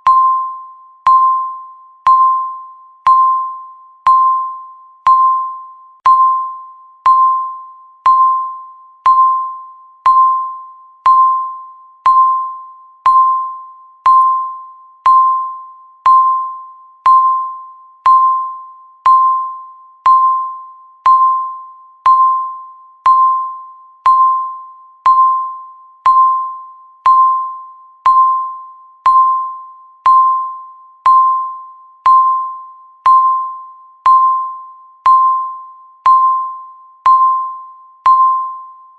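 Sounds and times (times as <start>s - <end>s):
timer beeping: 0.0s - 38.9s.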